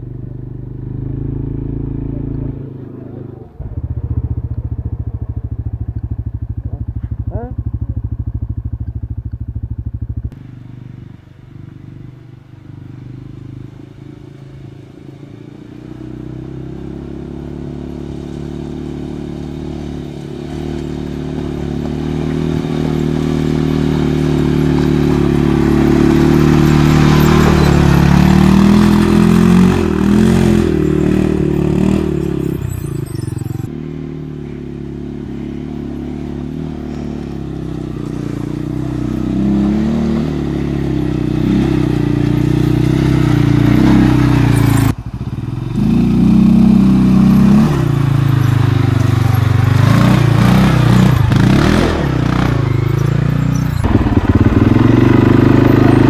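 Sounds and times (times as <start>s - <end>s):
atv engine revving on gravel: 0.0s - 56.0s
close engine running: 0.0s - 56.0s.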